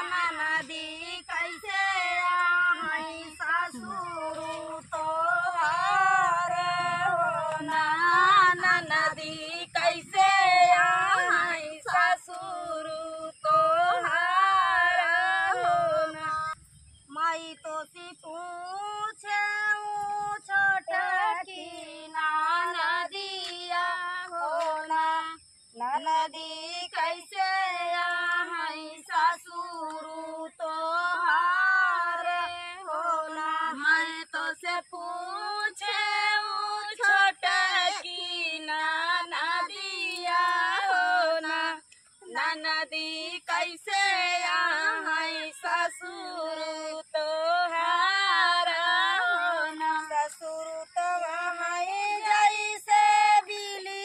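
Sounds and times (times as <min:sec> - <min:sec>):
woman singing unaccompanied: 0:00.0 - 0:54.0.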